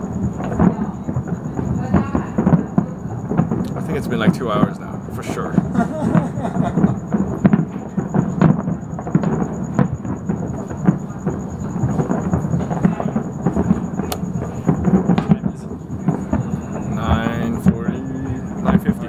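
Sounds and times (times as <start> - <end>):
distant fireworks popping and booming: 0.0 - 19.0.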